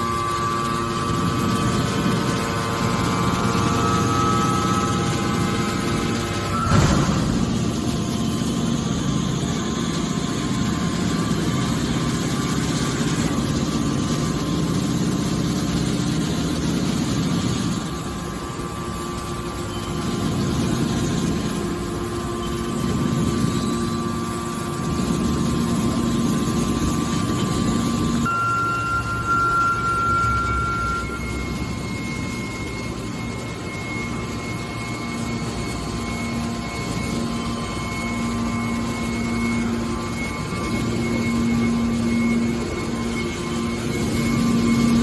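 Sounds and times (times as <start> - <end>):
baler motor and pump hum: 0.0 - 45.0.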